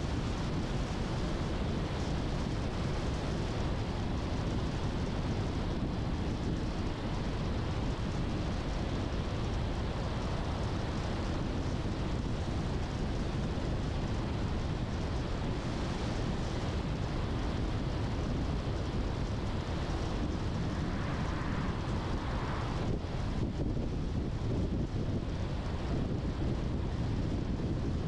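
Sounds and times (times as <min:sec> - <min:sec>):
car tyre and wind noise: 0:00.0 - 0:28.0.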